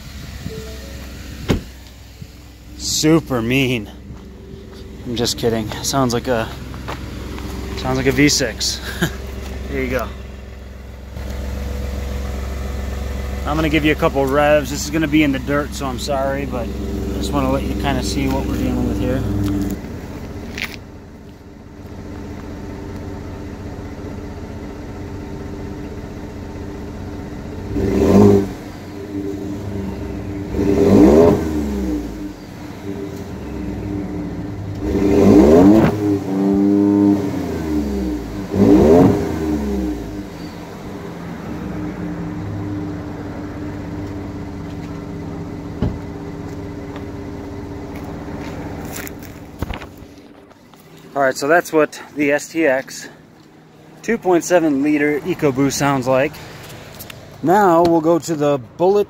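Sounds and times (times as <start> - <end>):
truck exhaust idling and revving: 0.0 - 59.0.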